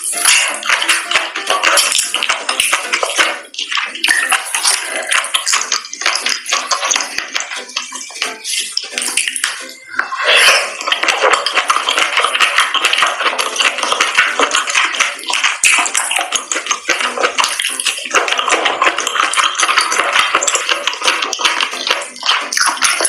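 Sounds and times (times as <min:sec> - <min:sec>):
wet sticky chewing sounds: 0:00.0 - 0:23.0.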